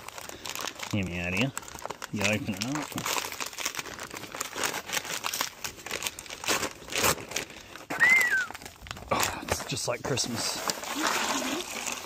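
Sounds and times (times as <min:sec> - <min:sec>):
paper sack tearing: 0:00.0 - 0:12.0.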